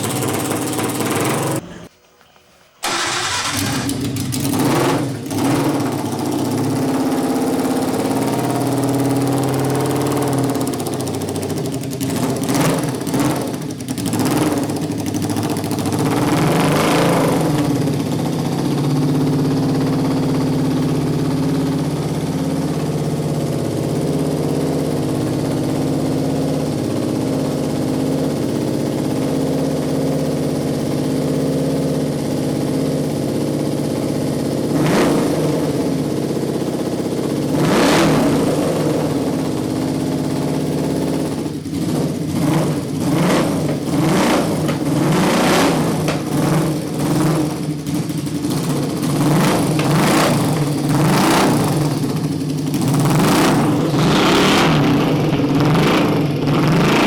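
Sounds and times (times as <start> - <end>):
motorcycle engine revving and idling: 0.0 - 1.9, 2.8 - 57.0.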